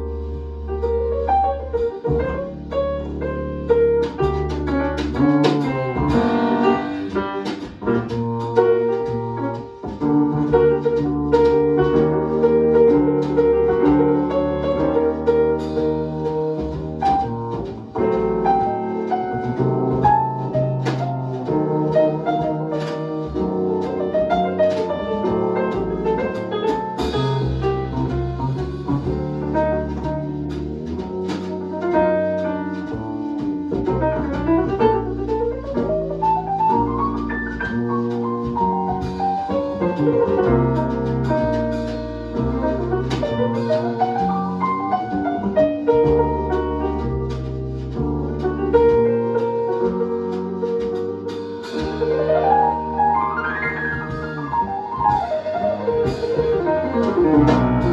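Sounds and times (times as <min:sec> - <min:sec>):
jazz music with piano and drums: 0:00.0 - 0:57.9.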